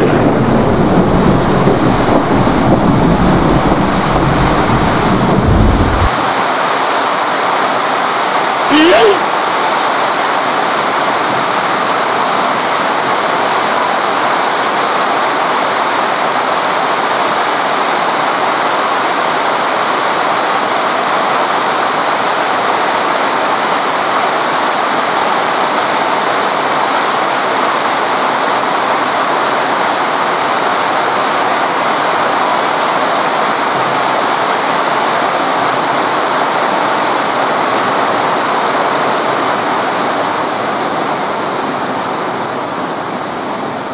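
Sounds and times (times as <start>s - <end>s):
torrential rain pouring: 0.0s - 43.9s.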